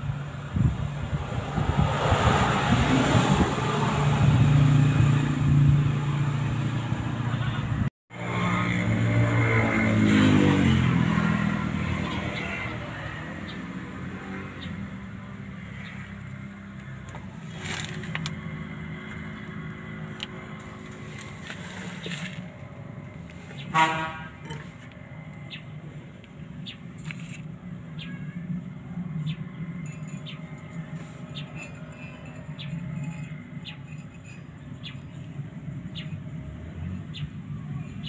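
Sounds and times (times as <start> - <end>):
vehicle engine revving and idling: 0.3 - 27.8, 28.6 - 38.0.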